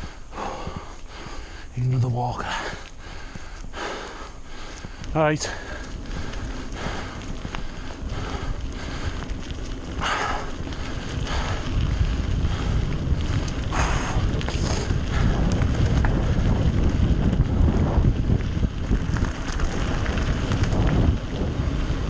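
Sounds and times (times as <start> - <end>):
heavy breaths: 0.0 - 17.9
low rumble: 0.0 - 22.0
wind buffeting microphone: 0.0 - 22.0
bike clicks and rattles: 2.4 - 22.0.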